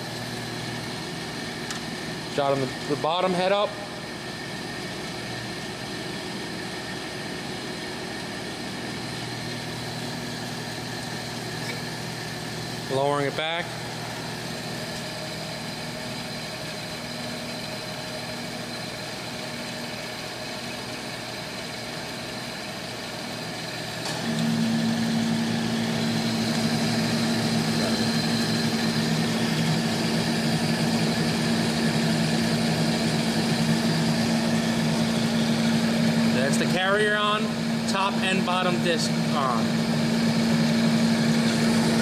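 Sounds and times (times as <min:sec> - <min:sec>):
grinder motors humming: 0:00.0 - 0:42.0.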